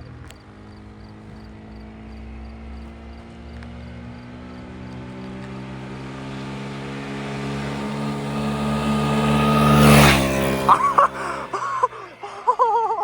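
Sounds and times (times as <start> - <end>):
scooter engine passing by: 0.0 - 13.0.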